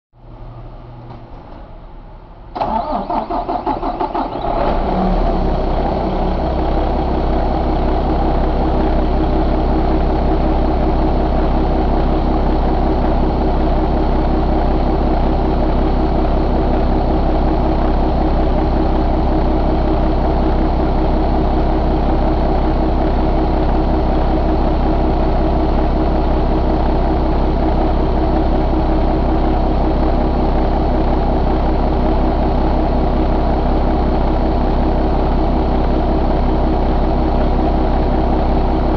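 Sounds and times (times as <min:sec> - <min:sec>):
diesel engine idling: 0:00.2 - 0:38.9.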